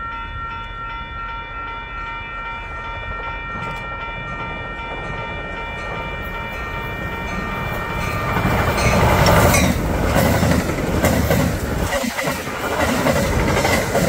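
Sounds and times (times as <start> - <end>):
train wheels rumbling and clattering: 2.1 - 14.0.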